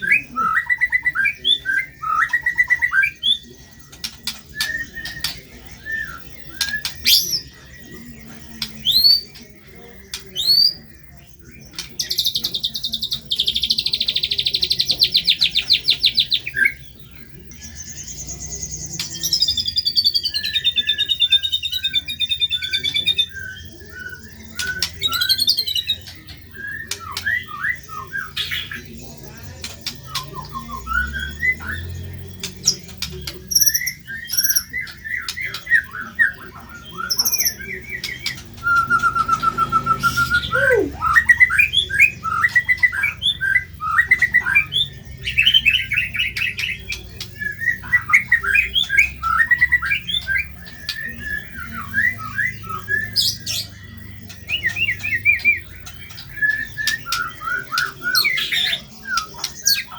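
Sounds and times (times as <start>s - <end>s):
bird singing: 0.0s - 59.9s.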